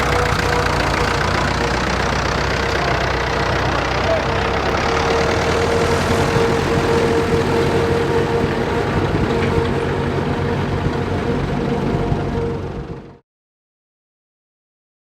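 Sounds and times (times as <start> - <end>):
steady whine: 0.0 - 13.2
tractor diesel engine running: 0.0 - 13.2.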